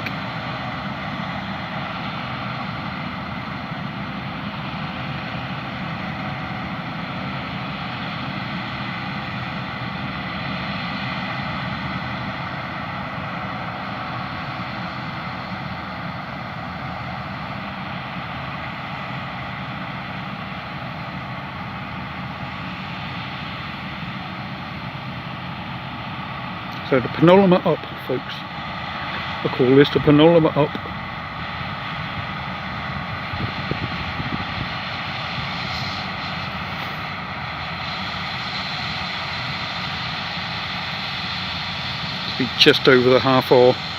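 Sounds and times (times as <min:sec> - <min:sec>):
combine harvester droning: 0:00.0 - 0:43.9.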